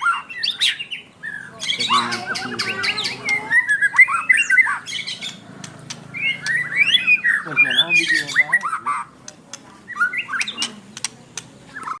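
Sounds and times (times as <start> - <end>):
songbird whistling song: 0.0 - 9.1, 9.8 - 11.1, 11.7 - 12.0.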